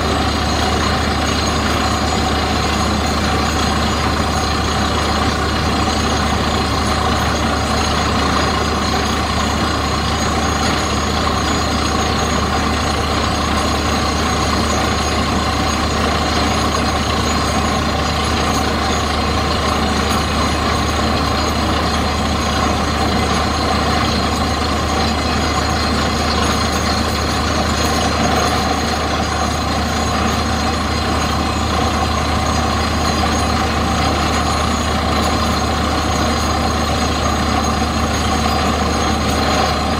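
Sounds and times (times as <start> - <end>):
drilling rig engine hum: 0.0 - 39.9.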